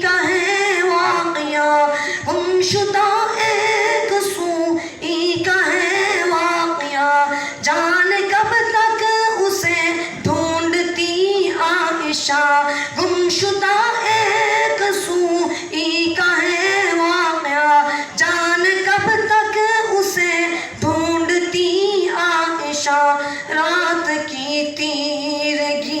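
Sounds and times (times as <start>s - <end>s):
child singing unaccompanied: 0.0s - 26.0s.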